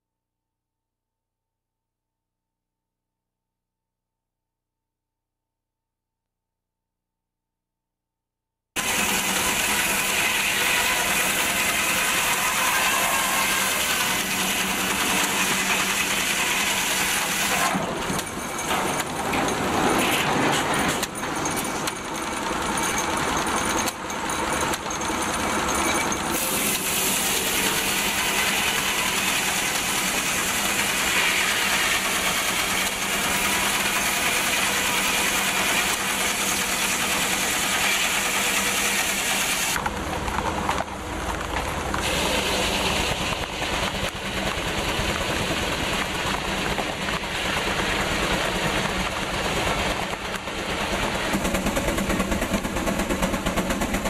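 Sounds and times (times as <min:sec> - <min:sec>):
circular sawmill blade sawing: 0:08.8 - 0:54.0.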